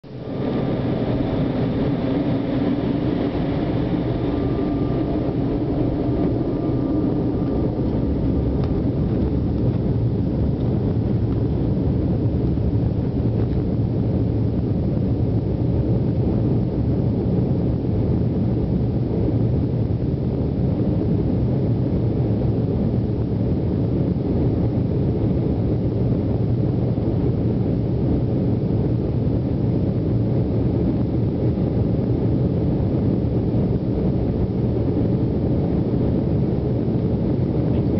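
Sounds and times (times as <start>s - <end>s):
faint whine: 0.0s - 37.9s
jet engine roar: 0.0s - 37.9s.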